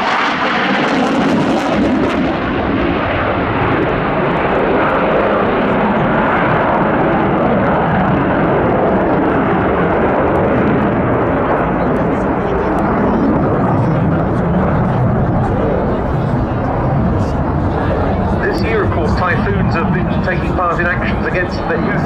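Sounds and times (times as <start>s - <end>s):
loud jet engine noise: 0.0s - 22.0s.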